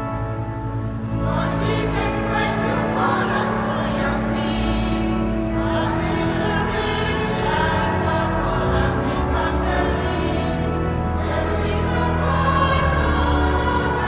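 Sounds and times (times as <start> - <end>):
organ chord: 0.0 - 14.0
choir singing: 1.0 - 14.0.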